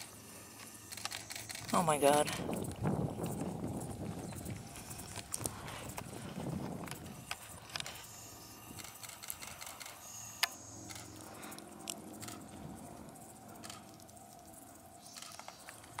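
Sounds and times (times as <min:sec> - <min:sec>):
small clicks and crackles: 0:00.0 - 0:16.0.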